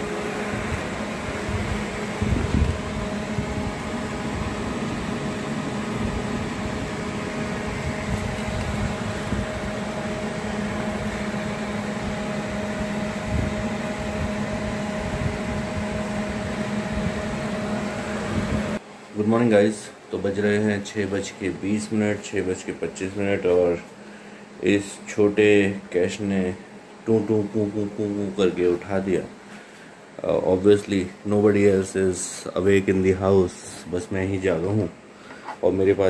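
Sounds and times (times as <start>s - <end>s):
fan humming and hissing: 0.0s - 36.0s.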